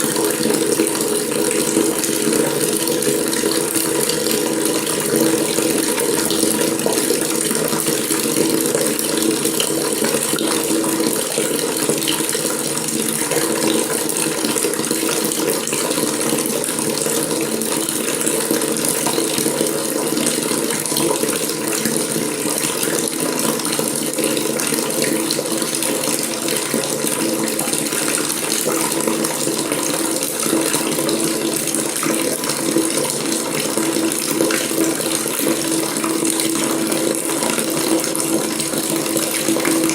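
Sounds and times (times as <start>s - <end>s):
water running from a faucet: 0.0s - 39.9s.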